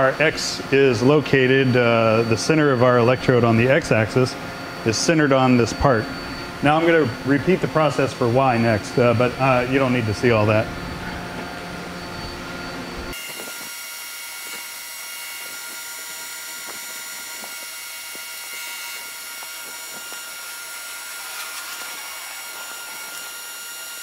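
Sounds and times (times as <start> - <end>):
high-pitched whines: 0.0 - 24.0
machine humming and hissing: 0.0 - 24.0.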